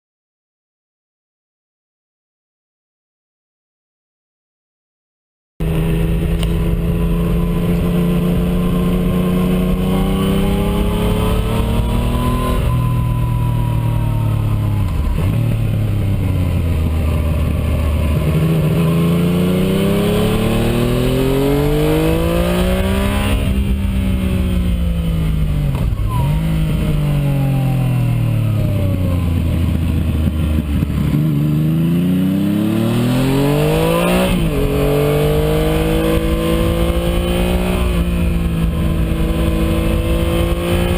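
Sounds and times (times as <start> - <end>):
motorcycle engine revving: 5.6 - 40.9.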